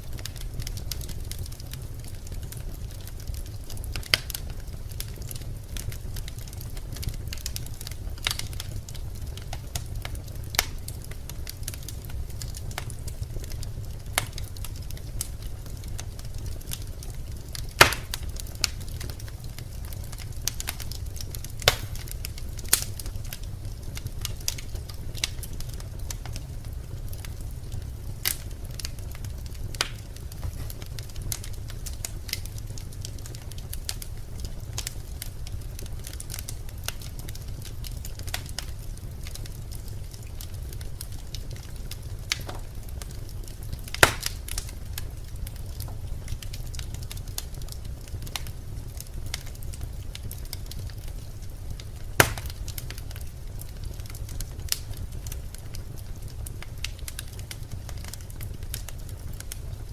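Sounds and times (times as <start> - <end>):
fire popping and crackling: 0.0 - 59.9
fire rumbling: 0.0 - 59.9.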